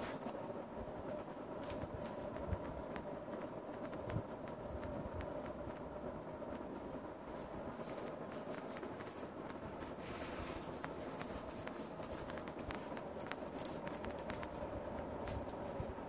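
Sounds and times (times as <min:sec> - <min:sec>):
steady background hum: 0:00.0 - 0:16.0
kitten claws skittering on tile: 0:01.1 - 0:16.0.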